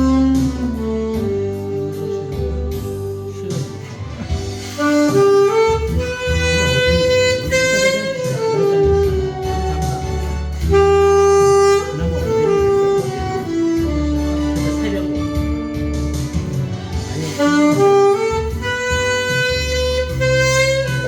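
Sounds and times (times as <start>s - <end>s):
backing track with bass line: 0.0s - 21.0s
saxophone playing slow melody: 0.0s - 21.0s.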